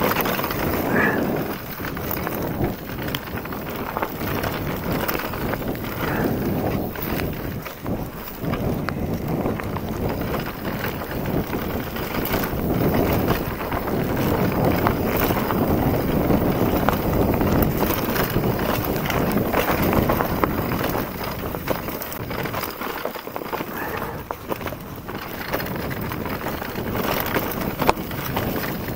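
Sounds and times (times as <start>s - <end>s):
bike rattling and knocking: 0.0s - 28.9s
tyres rolling over dirt: 0.0s - 28.9s
wind buffeting microphone: 0.0s - 28.9s.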